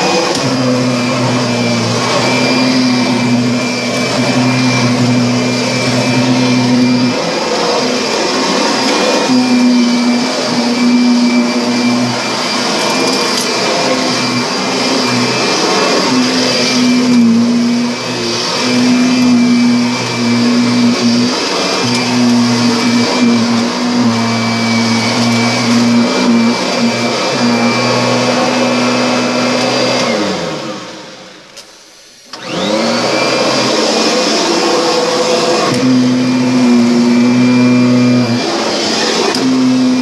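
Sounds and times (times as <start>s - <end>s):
vacuum cleaner motor hum: 0.0s - 31.3s, 32.3s - 40.0s.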